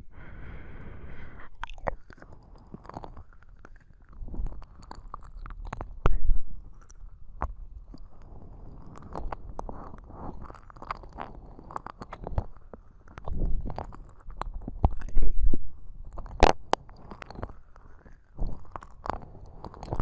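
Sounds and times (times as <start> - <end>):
wet tongue and lip clicks: 1.1 - 20.0.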